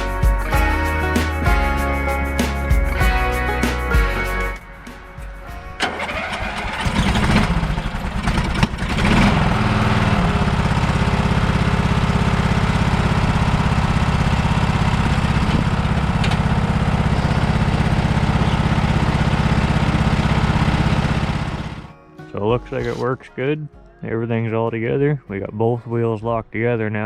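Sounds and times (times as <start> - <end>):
lawn tractor engine starting: 0.0 - 21.9.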